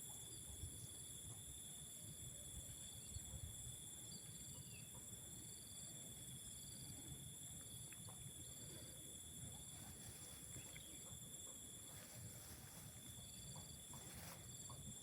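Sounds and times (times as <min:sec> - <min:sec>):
high-pitched insect trills: 0:00.0 - 0:15.0
insect chirp: 0:00.0 - 0:15.0.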